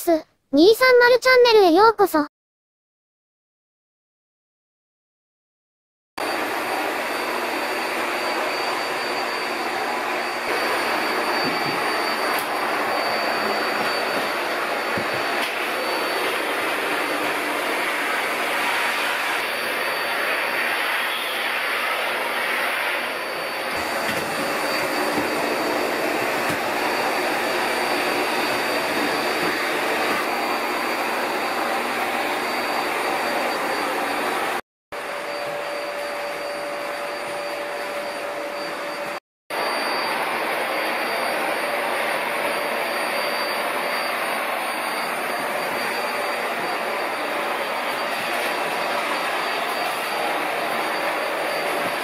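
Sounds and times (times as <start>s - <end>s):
vacuum cleaner running: 6.2s - 52.0s.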